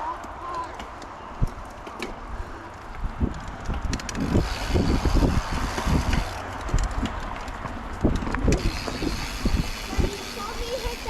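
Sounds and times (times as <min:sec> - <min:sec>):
bike rattles and knocks: 0:00.0 - 0:11.0
bike tyres rumbling on dirt: 0:00.0 - 0:11.0
wind noise on microphone: 0:01.4 - 0:11.0.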